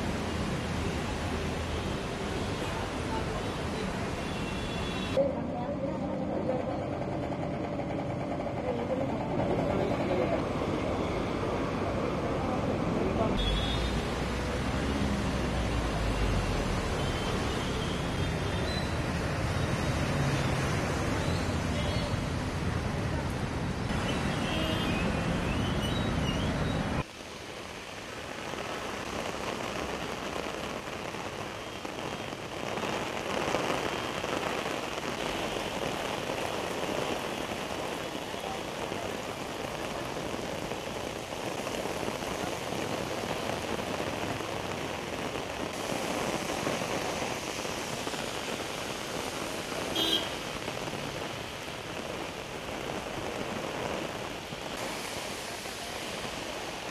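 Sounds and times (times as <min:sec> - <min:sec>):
heavy rain on wet road: 0:00.0 - 0:06.7, 0:08.0 - 0:56.9
traffic noise: 0:00.0 - 0:56.9
deep rush of water: 0:09.8 - 0:56.9.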